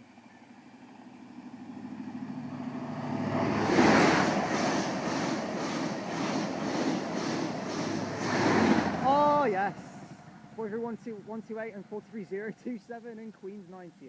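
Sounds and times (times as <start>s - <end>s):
high speed train passing: 0.0s - 13.5s.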